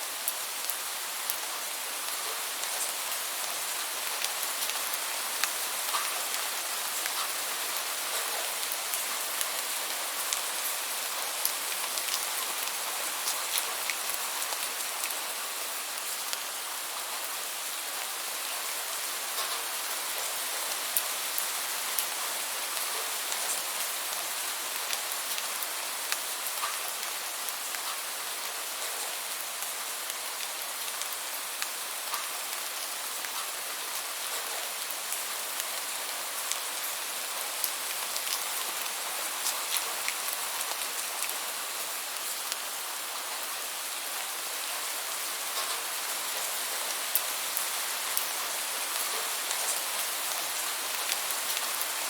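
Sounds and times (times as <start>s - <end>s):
steady rainfall: 0.0s - 52.0s.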